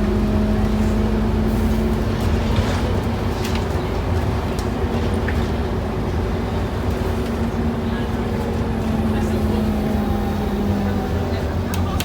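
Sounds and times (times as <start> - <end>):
bus diesel engine droning: 0.0 - 12.0
road rumble: 0.0 - 12.0.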